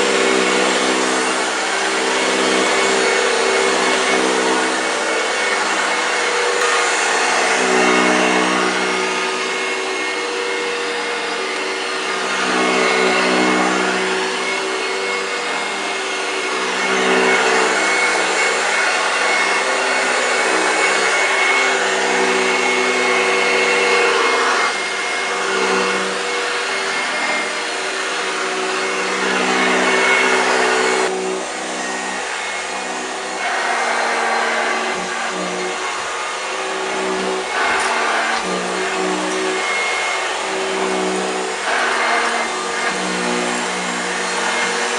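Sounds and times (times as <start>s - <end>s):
vacuum cleaner running on carpet: 0.0s - 44.9s.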